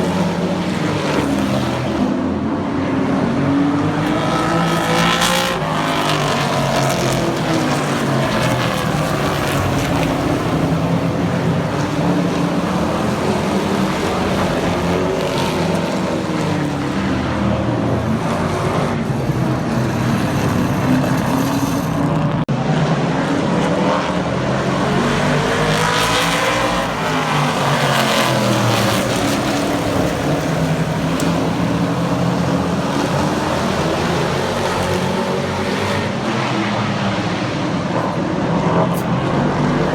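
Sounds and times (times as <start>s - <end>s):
race truck engines passing: 0.0s - 39.9s.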